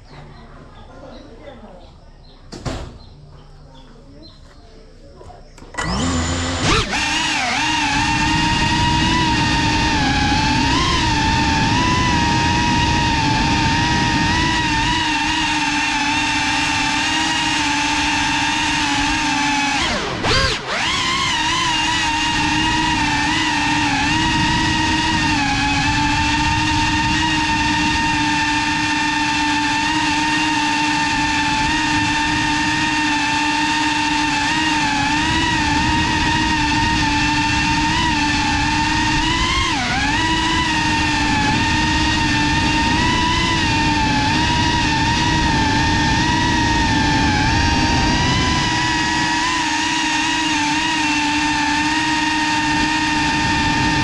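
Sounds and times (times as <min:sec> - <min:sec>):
drone motors whining: 0:05.1 - 0:54.0.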